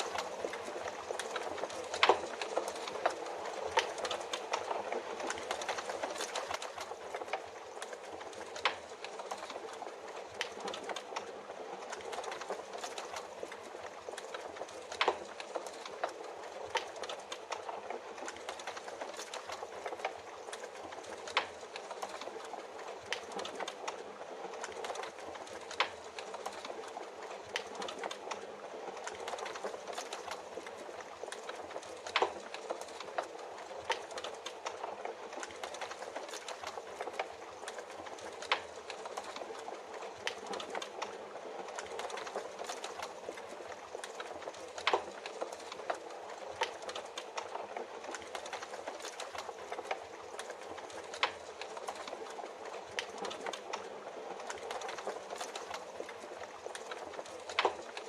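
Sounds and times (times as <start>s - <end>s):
fireplace crackling and popping: 0.0s - 58.0s
rain falling: 0.0s - 58.0s.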